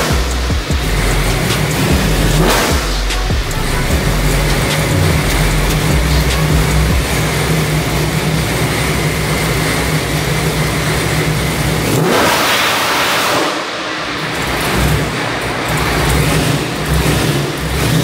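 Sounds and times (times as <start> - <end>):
loud car engine on a dyno: 0.0 - 18.0.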